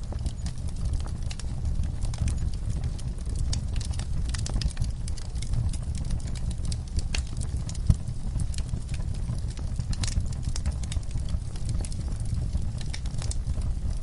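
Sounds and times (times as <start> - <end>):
fire crackles and pops: 0.0 - 14.0
low rumble of flames: 0.0 - 14.0.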